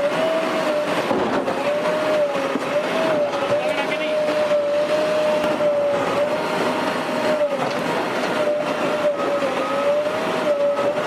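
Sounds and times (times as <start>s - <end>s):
bulldozer engine and hydraulic whine: 0.0s - 11.0s
rumble and clatter: 0.0s - 11.0s.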